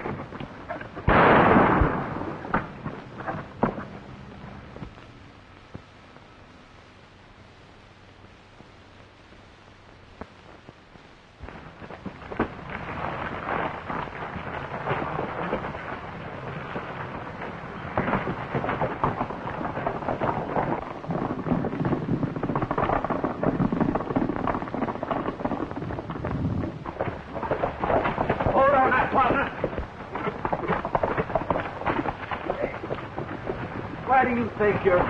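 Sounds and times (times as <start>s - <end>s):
horse hooves galloping on dirt: 0.0s - 5.0s, 11.4s - 35.0s.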